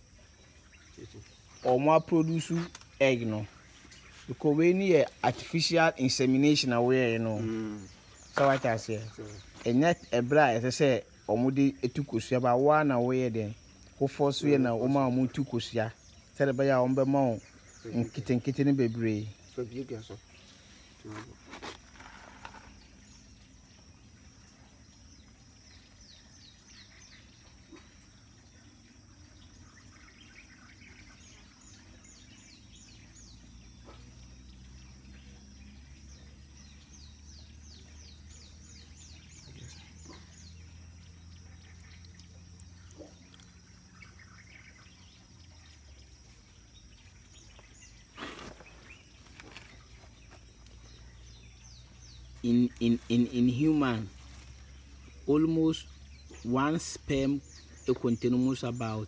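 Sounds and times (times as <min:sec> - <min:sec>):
bird chirps: 0:00.0 - 0:59.0
insect whine: 0:00.0 - 0:59.0.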